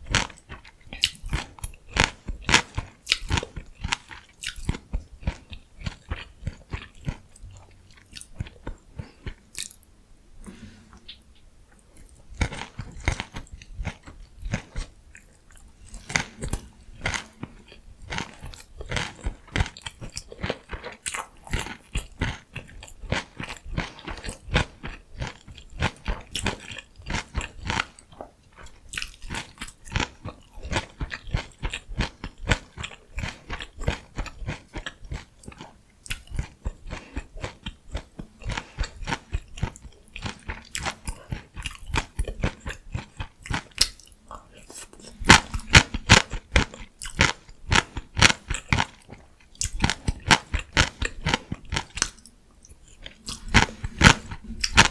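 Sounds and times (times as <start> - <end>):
chewing crisp vegetables: 0.0 - 54.9.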